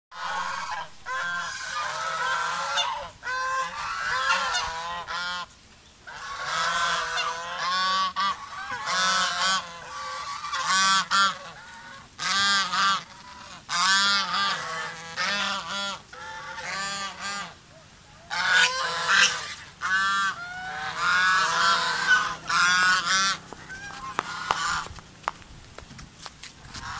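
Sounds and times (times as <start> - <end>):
geese honking: 0.2 - 25.0.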